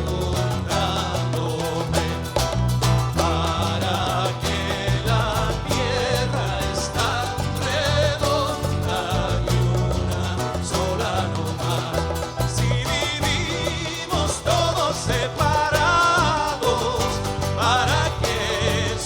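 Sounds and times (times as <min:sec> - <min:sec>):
folk-pop band with guitars: 0:00.0 - 0:19.0
steady bass rhythm: 0:00.0 - 0:19.0.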